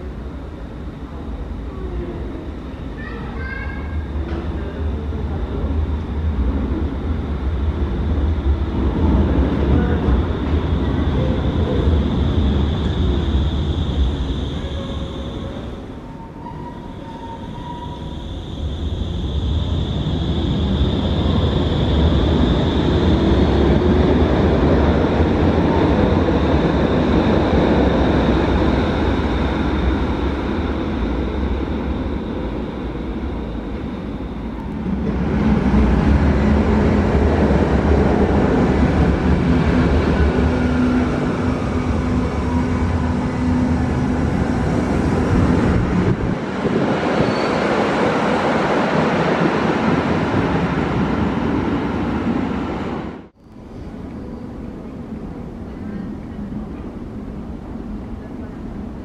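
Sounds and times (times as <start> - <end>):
trains rumbling through station: 0.0 - 59.0.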